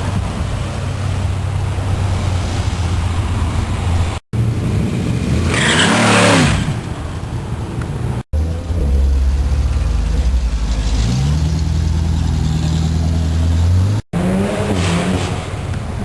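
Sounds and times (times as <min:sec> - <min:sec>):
car engines rumbling in traffic: 0:00.0 - 0:16.0.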